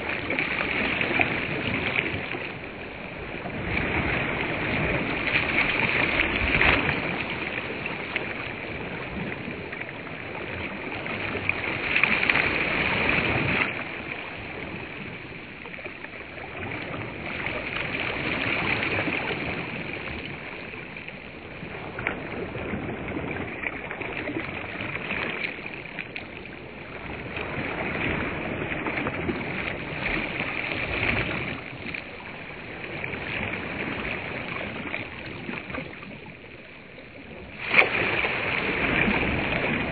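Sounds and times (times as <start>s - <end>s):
small waves washing onto sand: 0.0s - 39.9s.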